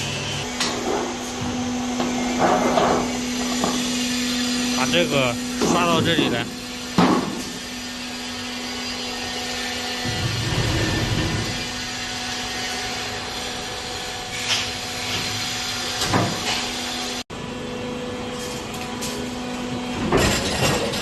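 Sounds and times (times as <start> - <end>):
factory machinery humming: 0.0 - 21.0.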